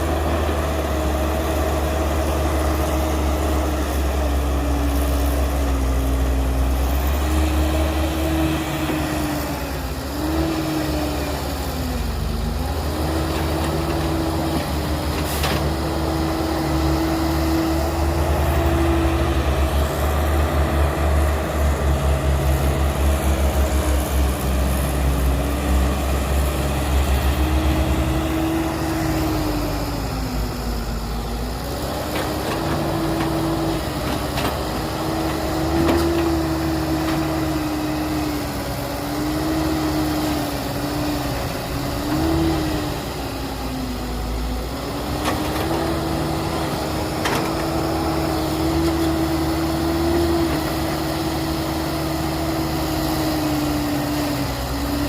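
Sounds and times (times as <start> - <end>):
heavy diesel engine rumbling: 0.0 - 55.0.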